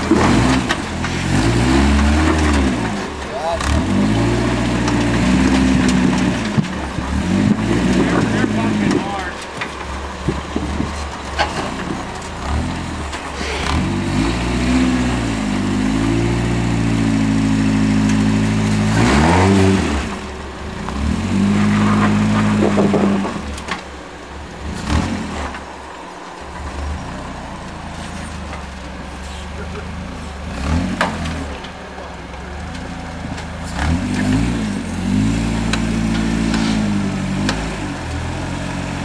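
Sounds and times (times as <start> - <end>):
buggy engine revving: 0.0 - 39.0.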